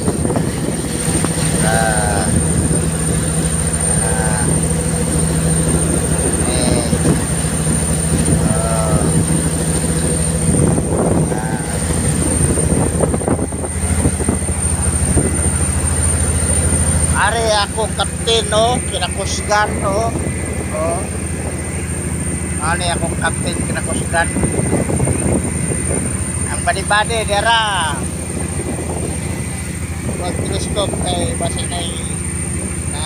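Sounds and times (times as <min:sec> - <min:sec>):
sea water sloshing: 0:00.0 - 0:26.5
boat engine droning: 0:00.0 - 0:33.0.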